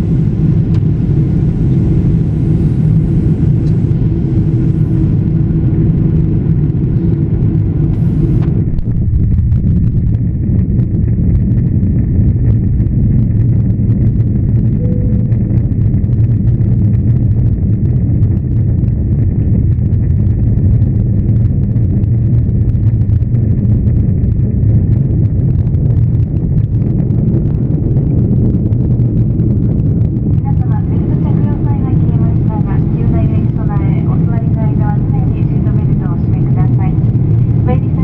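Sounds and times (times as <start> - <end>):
airliner engines droning: 0.0 - 38.0.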